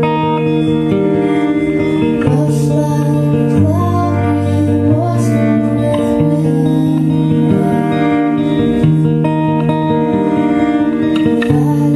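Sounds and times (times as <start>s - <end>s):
acoustic guitar: 0.0s - 11.9s
person singing: 0.0s - 11.9s.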